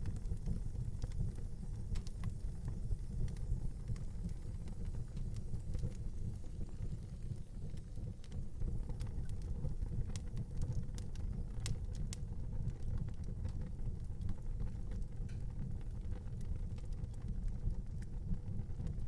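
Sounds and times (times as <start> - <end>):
fire crackling and popping: 0.0 - 19.0
wood fire rumbling: 0.0 - 19.0.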